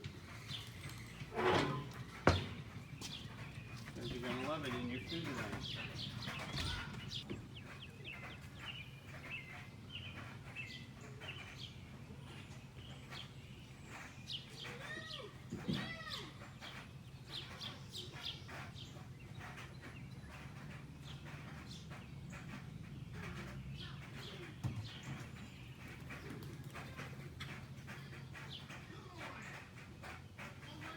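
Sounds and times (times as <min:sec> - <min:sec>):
songbirds chirping: 0:00.0 - 0:30.9.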